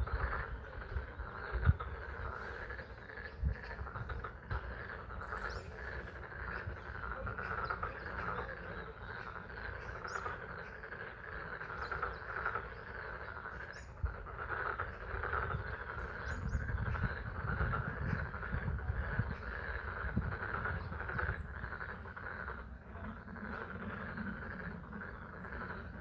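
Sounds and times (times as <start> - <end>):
frog chorus: 0.0 - 26.0
steady low rumble: 0.0 - 26.0.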